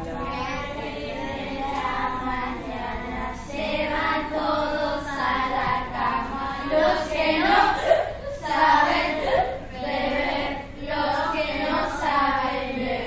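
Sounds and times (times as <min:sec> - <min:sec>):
young voices singing: 0:00.0 - 0:13.0.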